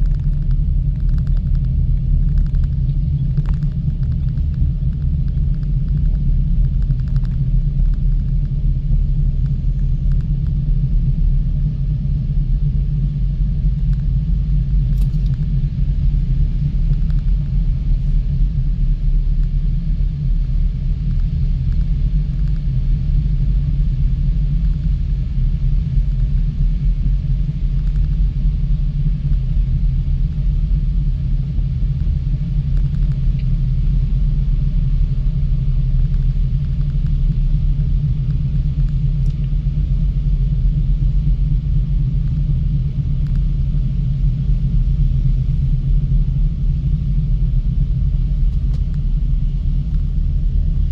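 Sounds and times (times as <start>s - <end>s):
gondola cabin low rumble: 0.0s - 50.9s.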